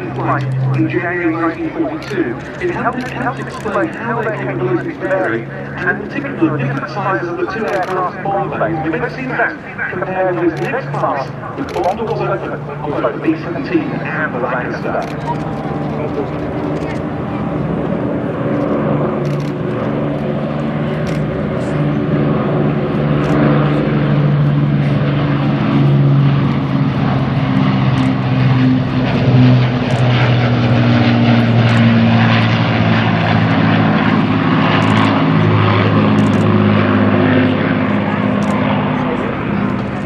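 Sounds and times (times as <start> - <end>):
propeller plane engines droning: 0.0 - 40.0.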